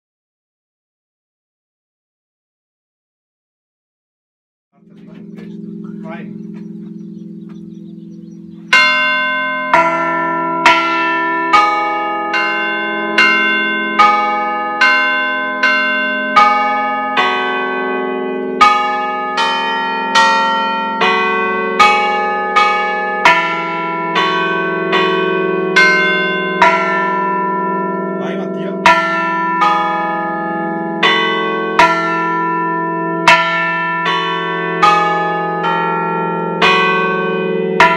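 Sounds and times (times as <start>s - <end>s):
church bells ringing melody: 4.8s - 37.9s.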